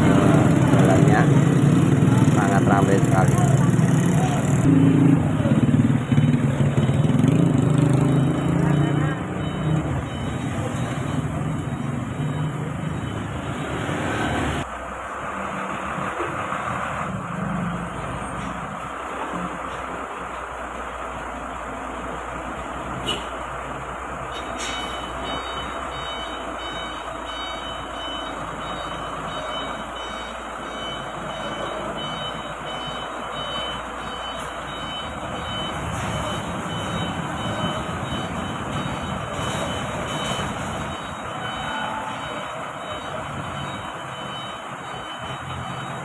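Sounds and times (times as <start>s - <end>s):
truck diesel engine running: 0.0s - 16.2s, 16.8s - 46.0s.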